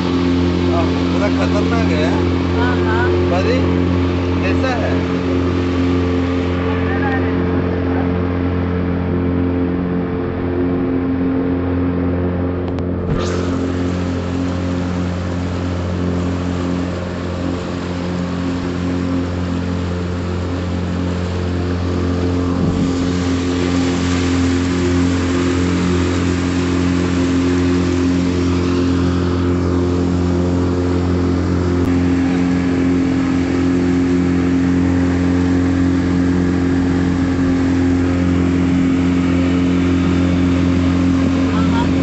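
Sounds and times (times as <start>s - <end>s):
motorboat engine humming: 0.0s - 42.0s
water rushing along hull: 0.0s - 42.0s.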